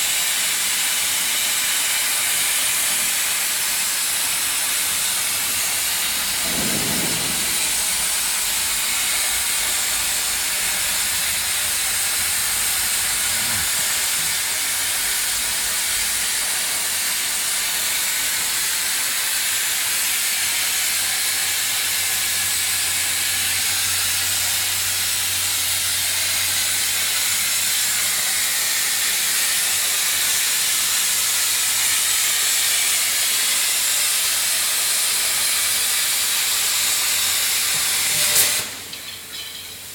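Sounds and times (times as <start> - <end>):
plasma torch hissing: 0.1 - 39.9.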